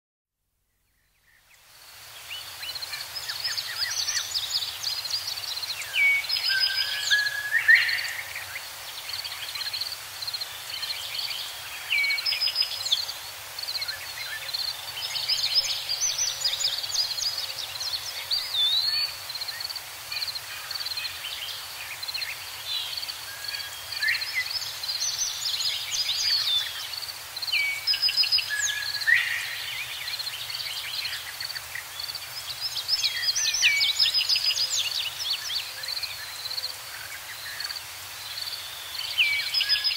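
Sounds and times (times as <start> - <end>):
small birds chirping and singing: 2.2 - 39.9.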